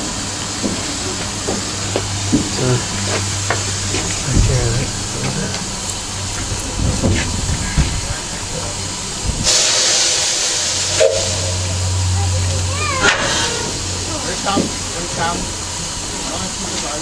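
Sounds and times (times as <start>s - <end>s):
loud hiss of escaping steam: 0.0s - 17.0s
steam locomotive moving slowly: 0.0s - 17.0s.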